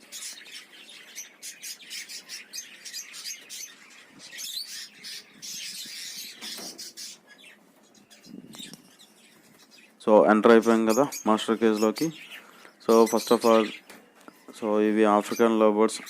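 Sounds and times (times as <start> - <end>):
birds chirping and chattering: 0.0 - 16.0.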